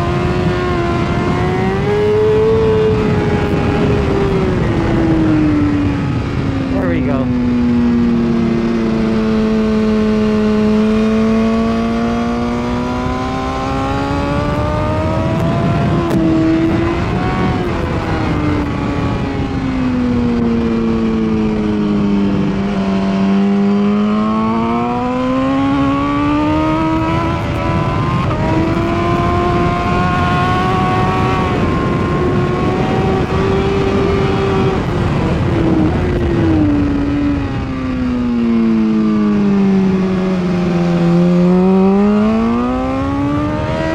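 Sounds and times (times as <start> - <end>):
motorcycle engine at race pace: 0.0 - 43.9.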